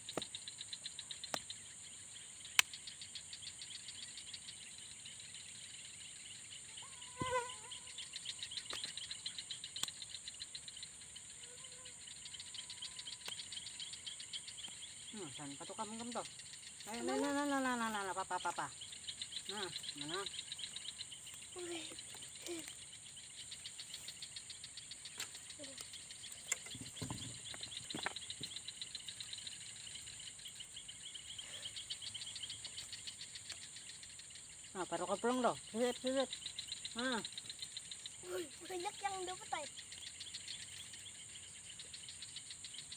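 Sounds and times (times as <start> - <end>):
cricket drone: 0.0 - 42.9
fast pulsing insect chirp: 0.0 - 42.9.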